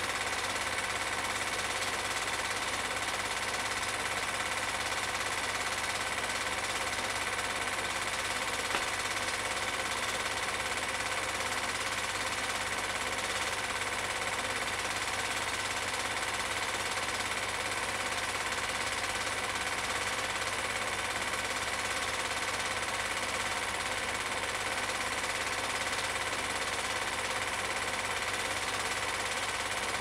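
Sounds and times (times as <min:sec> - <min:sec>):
film projector whirring and clattering: 0:00.0 - 0:30.0.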